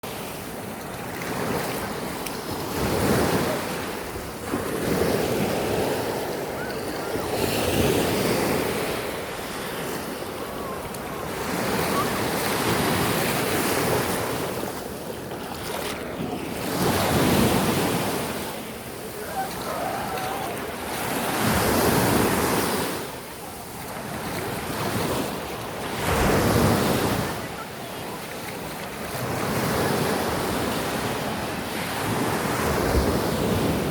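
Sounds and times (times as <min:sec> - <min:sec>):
waves breaking on beach: 0:00.0 - 0:33.9.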